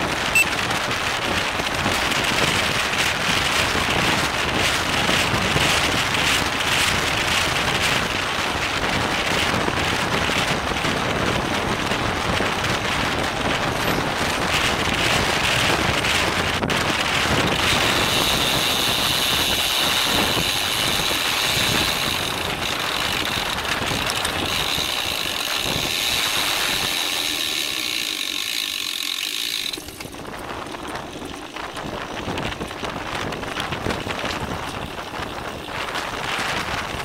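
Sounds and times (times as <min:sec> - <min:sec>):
bike freehub buzzing: 0:00.0 - 0:37.0
wind rush on microphone: 0:00.0 - 0:37.0.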